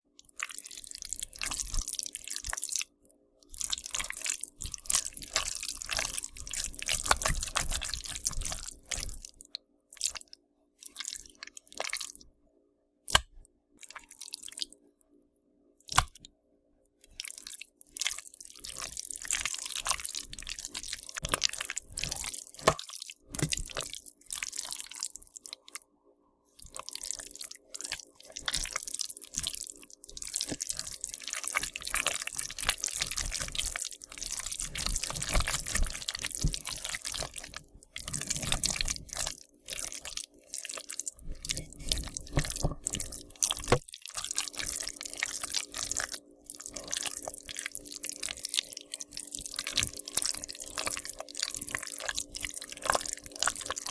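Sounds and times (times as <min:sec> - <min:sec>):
wet squelching chewing: 0:00.2 - 0:12.2, 0:13.1 - 0:14.8, 0:17.0 - 0:25.8, 0:26.6 - 0:53.9.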